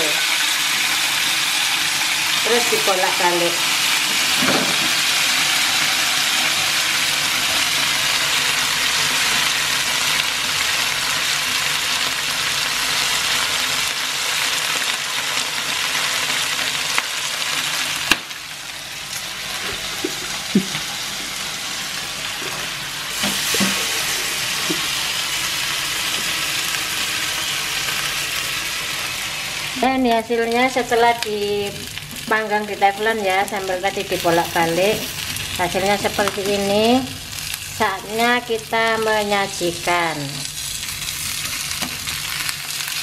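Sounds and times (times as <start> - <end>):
chicken sizzling in a frying pan: 0.0 - 43.0.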